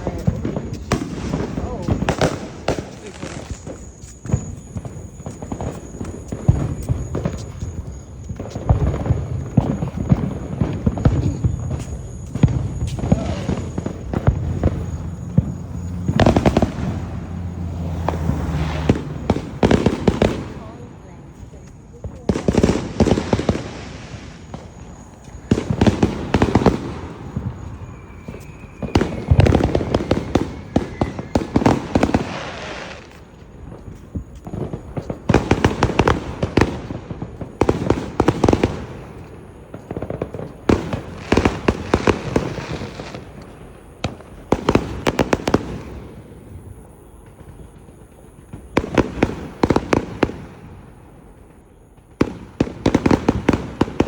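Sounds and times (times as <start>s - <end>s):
fireworks cracking and popping: 0.0s - 54.0s.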